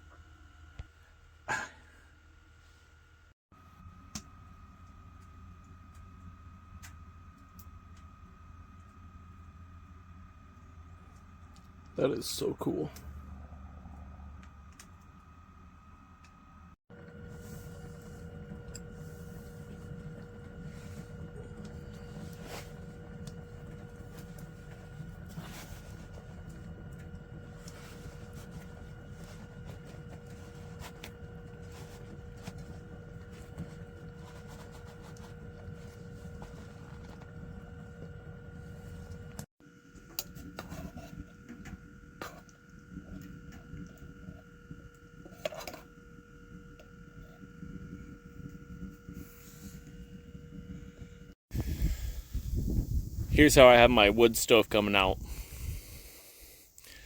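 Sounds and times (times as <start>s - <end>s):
low rumble and hum: 0.0s - 57.0s.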